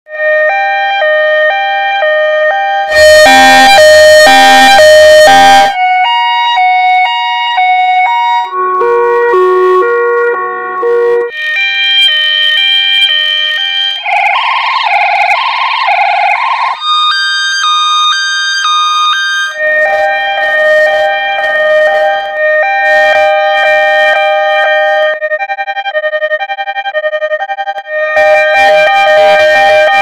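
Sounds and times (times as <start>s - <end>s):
two-tone ambulance siren: 0.1s - 30.0s.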